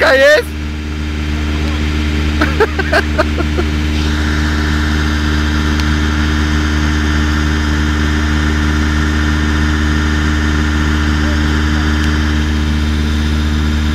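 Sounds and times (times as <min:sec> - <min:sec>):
engine idling: 0:00.0 - 0:13.9.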